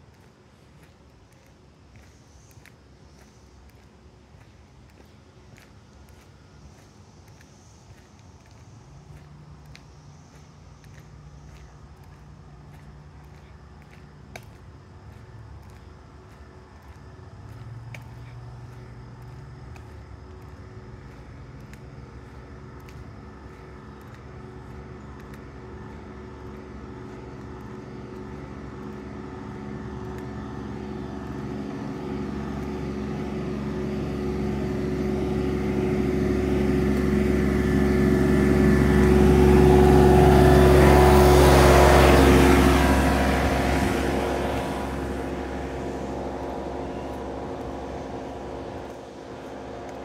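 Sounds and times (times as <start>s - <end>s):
vehicle engine passing by: 4.4s - 50.0s.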